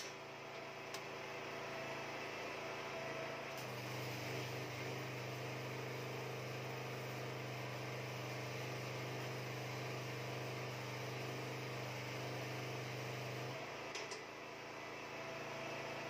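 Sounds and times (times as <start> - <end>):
welding machine humming: 0.0 - 16.0.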